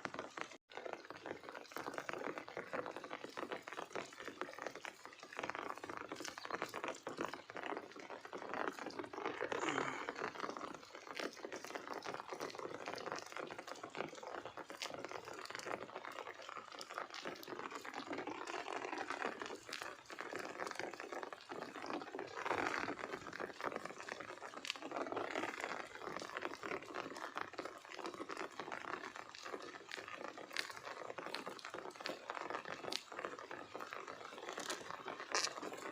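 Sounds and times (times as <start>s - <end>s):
small clicks and crackles: 0.0s - 35.9s.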